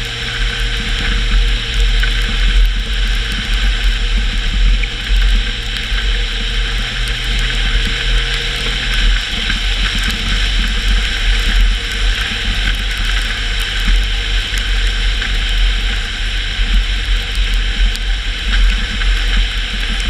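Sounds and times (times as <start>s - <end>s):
car engine drone: 0.0s - 20.0s
tyres hissing on wet pavement: 0.0s - 20.0s.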